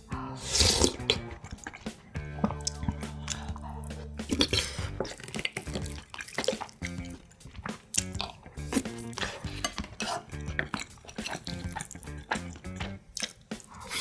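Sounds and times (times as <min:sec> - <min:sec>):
wet chewing and slurping: 0:00.0 - 0:14.0
chopsticks clicking against dishes: 0:00.5 - 0:14.0.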